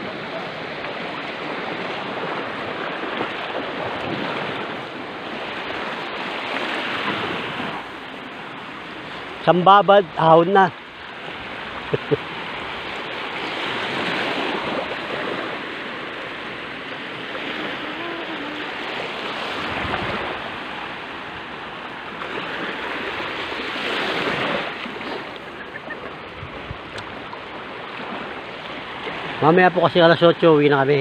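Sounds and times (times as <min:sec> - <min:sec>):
sea waves washing ashore: 0:00.0 - 0:31.0.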